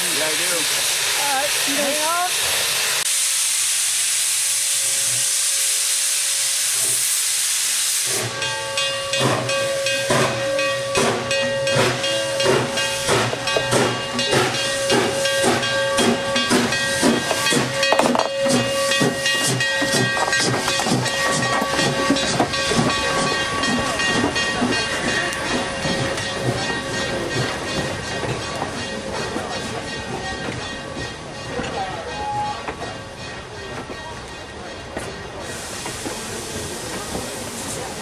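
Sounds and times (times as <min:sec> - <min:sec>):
steam hissing from locomotive: 0:00.0 - 0:29.9, 0:34.8 - 0:38.0
steam locomotive exhaust chuffs: 0:00.0 - 0:33.6, 0:34.4 - 0:38.0.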